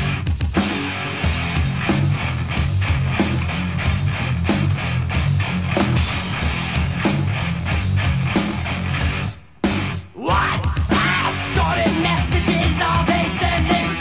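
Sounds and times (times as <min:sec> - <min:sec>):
bass guitar: 0:00.0 - 0:14.0
distorted electric guitar riffing: 0:00.0 - 0:14.0
hard-hit drums: 0:00.0 - 0:14.0.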